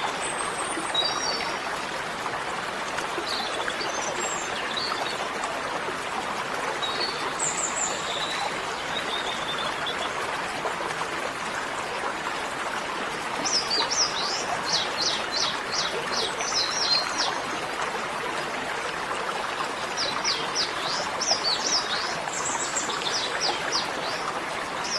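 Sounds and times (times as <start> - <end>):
running water rushing: 0.0 - 24.9.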